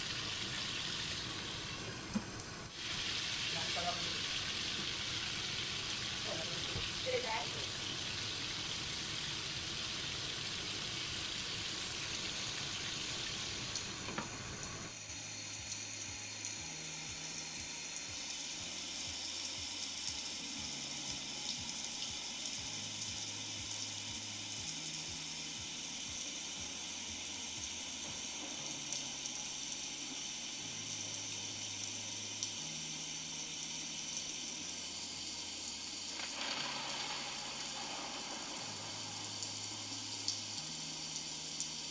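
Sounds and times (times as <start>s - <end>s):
fish sizzling in hot oil: 0.0s - 41.9s.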